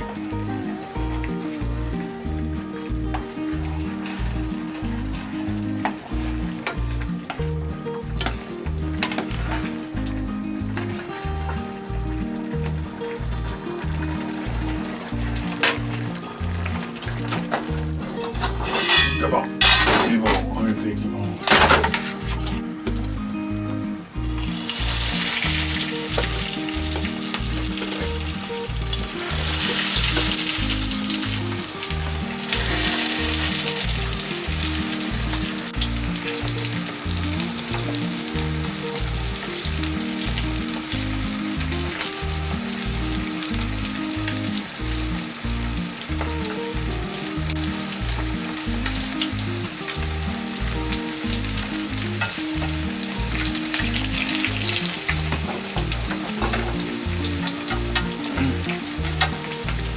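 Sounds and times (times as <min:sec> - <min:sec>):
oil sizzling and bubbling: 0:00.0 - 0:59.9.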